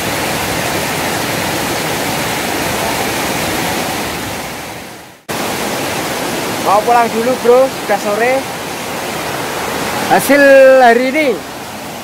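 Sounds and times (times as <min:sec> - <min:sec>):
waterfall rushing into a pool: 0:00.0 - 0:12.0.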